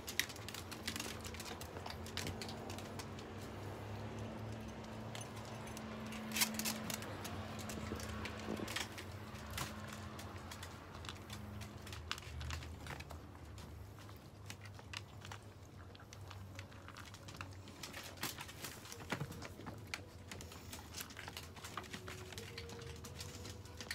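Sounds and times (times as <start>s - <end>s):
dogs crunching dry kibble: 0.0s - 23.9s.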